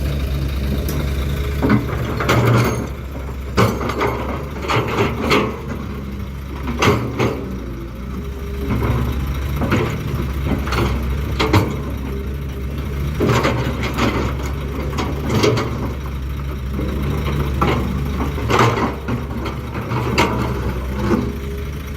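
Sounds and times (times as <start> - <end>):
diesel machinery engine running: 0.0 - 21.9.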